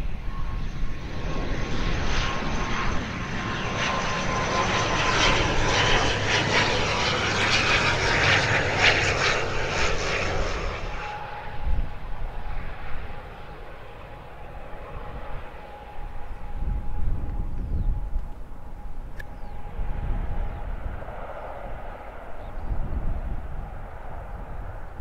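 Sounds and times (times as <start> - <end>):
steady engine whine: 0.0 - 25.0
turboprop plane flying past: 0.0 - 25.0.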